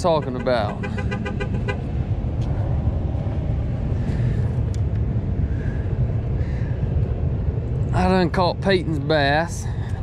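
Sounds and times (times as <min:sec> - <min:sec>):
wind buffeting microphone: 0:00.7 - 0:10.0.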